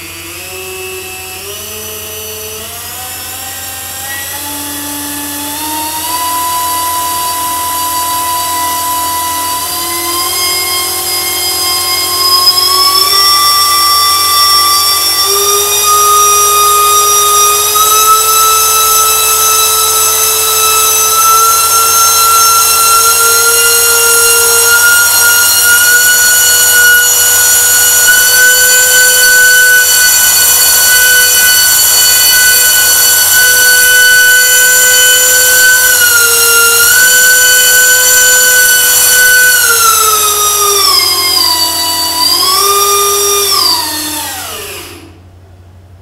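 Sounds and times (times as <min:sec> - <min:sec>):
high-pitched motor whine: 0:00.0 - 0:45.3.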